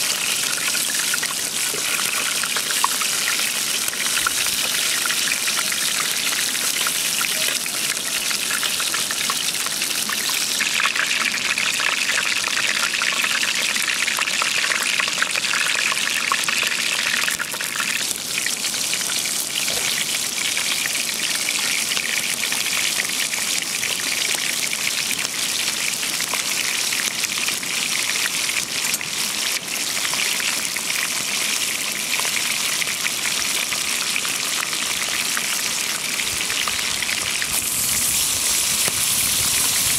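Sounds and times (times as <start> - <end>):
chicken frying in oil: 0.0 - 39.9.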